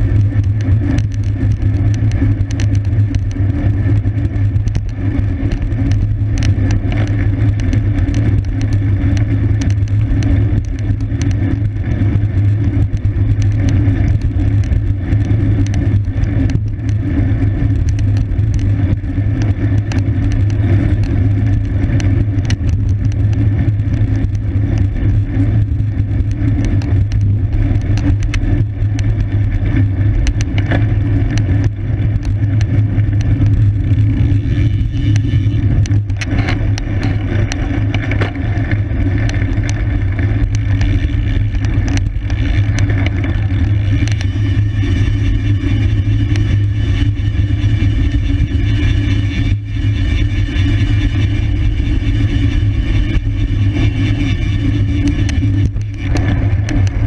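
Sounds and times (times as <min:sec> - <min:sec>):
small clicks and rattles: 0:00.0 - 0:57.0
wind rumble on microphone: 0:00.0 - 0:57.0.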